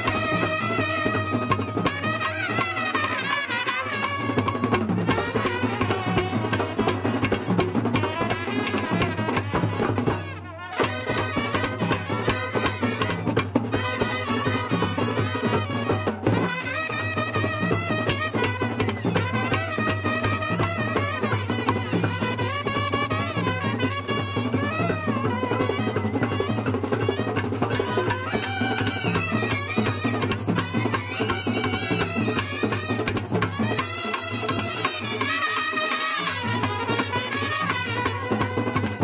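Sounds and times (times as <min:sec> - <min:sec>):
brass band melody: 0:00.0 - 0:39.0
drums: 0:00.0 - 0:39.0.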